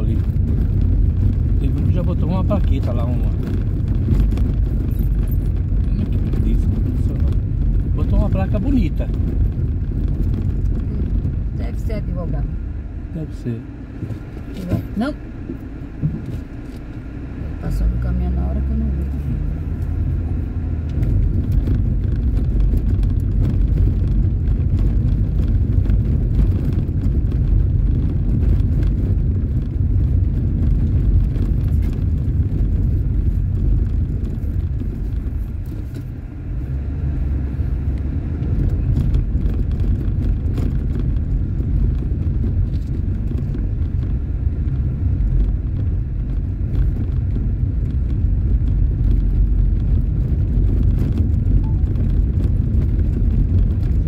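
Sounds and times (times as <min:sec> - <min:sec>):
tyres rumbling on cobblestones: 0:00.0 - 0:54.0.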